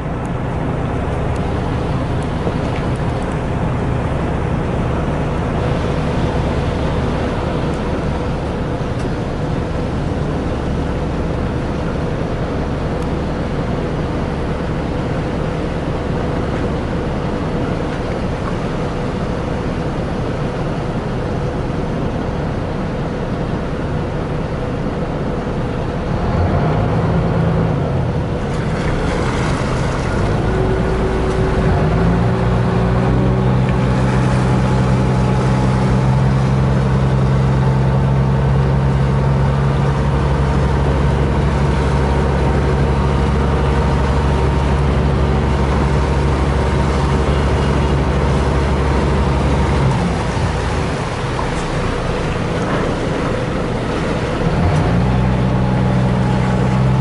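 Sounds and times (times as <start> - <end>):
ferry engine drone: 0.0 - 57.0
water wash: 0.0 - 57.0.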